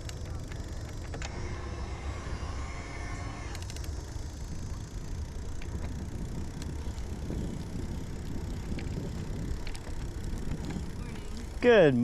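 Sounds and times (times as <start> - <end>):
bike tyre rumble: 0.0 - 12.0
wind buffeting microphone: 0.0 - 12.0.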